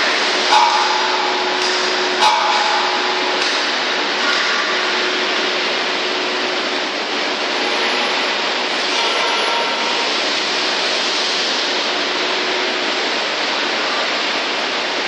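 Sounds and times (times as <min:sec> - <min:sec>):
overhead crane running: 0:00.0 - 0:15.0.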